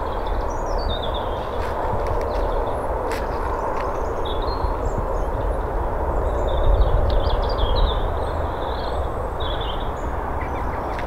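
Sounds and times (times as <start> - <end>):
bird chirping: 0.0 - 11.0
low outdoor rumble: 0.0 - 11.0.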